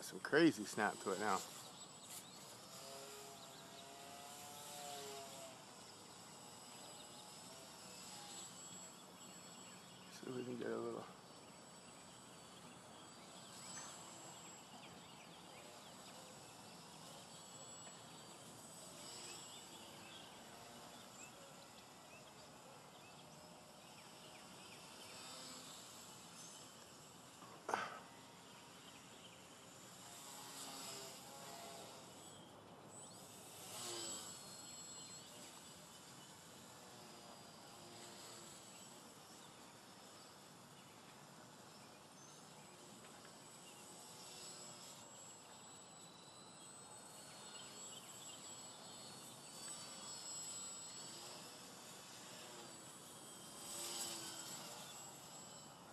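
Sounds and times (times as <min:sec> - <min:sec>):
model plane motor buzzing: 0:00.0 - 0:55.9.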